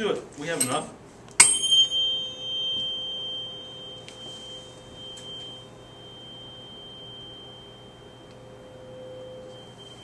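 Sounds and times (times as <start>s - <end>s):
tuning fork ringing tone: 1.4s - 10.0s.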